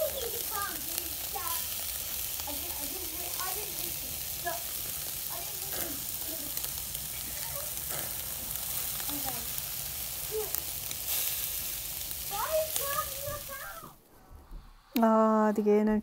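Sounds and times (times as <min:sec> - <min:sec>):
meat sizzling on charcoal grill: 0:00.0 - 0:14.0
small crackles: 0:00.0 - 0:14.2.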